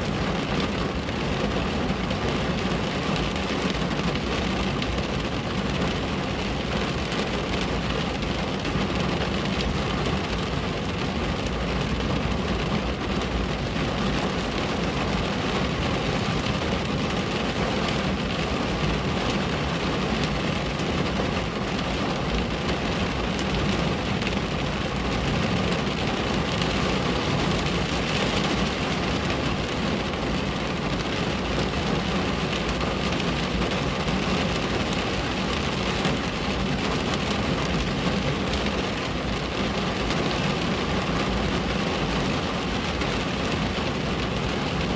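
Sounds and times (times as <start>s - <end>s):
rain pattering on window: 0.0s - 44.9s.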